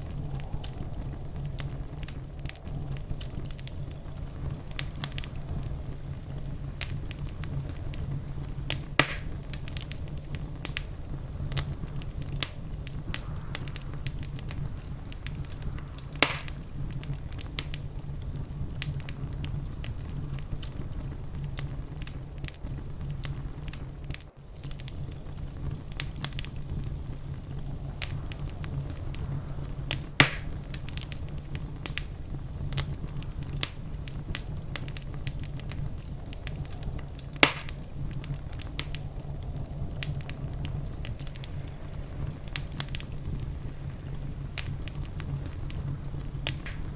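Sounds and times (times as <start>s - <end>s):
loud fire pops: 0.0s - 46.9s
wood fire crackling: 0.0s - 46.9s.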